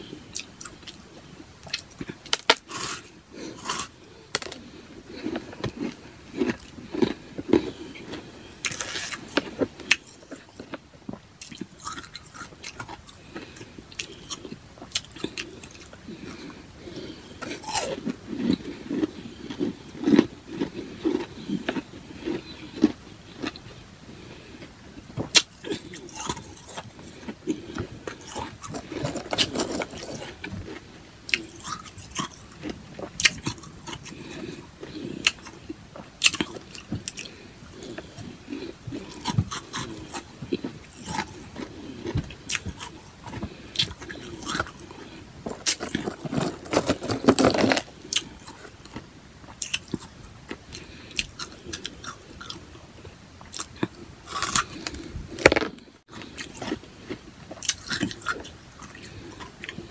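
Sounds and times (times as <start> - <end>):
chewing and crunching ice: 0.0 - 59.9.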